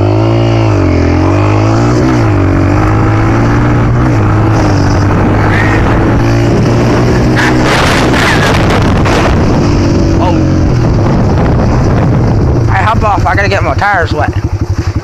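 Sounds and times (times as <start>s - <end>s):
loud rushing noise: 0.0s - 13.6s
vehicle engine running: 0.0s - 15.0s.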